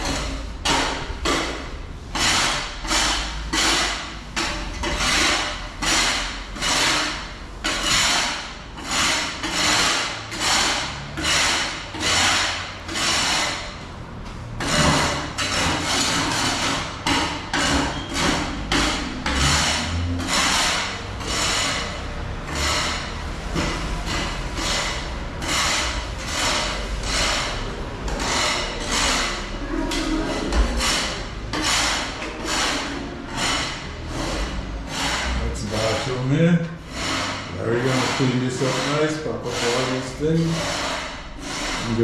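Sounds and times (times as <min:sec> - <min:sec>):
gritty scraping strokes: 0:00.0 - 0:42.0.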